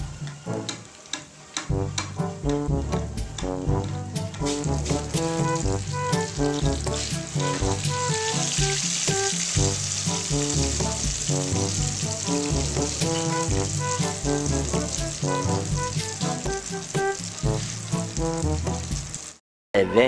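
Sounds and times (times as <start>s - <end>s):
food sizzling in wok: 0.0s - 19.4s
background music with melody: 0.0s - 20.0s.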